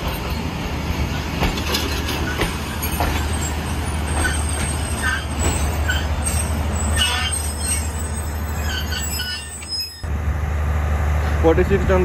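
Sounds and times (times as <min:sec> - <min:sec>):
train wheels squealing on rails: 0:00.0 - 0:10.1
train low rumble: 0:00.0 - 0:12.0.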